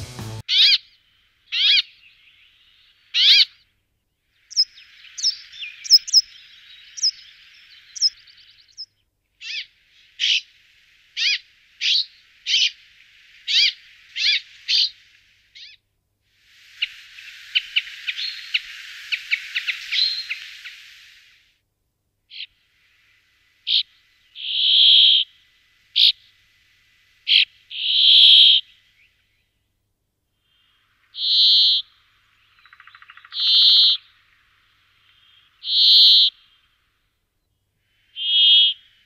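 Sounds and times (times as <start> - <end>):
bird calls: 0.0 - 3.7, 4.3 - 15.8, 16.8 - 21.2, 22.3 - 22.6, 23.7 - 25.4, 26.0 - 26.4, 27.3 - 29.3, 30.5 - 36.7, 37.4 - 39.0
faint hiss: 0.0 - 39.0.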